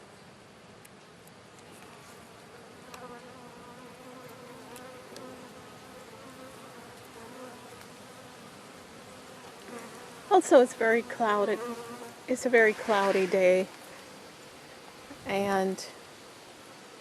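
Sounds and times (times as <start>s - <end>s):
honey bees buzzing: 1.7s - 15.6s.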